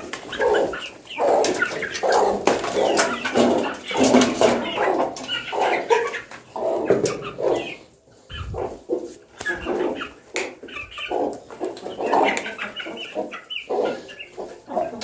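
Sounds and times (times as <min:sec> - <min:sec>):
farm animals calling: 0:00.0 - 0:15.0.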